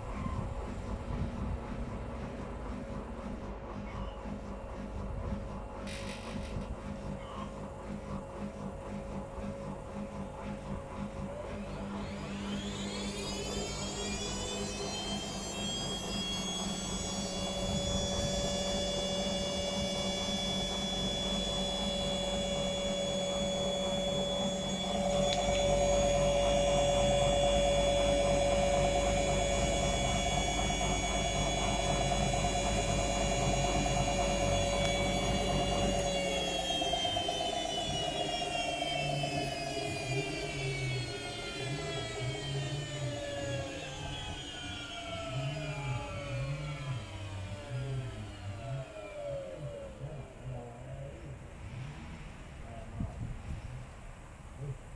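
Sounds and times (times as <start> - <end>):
washing machine spinning: 0.0 - 49.8.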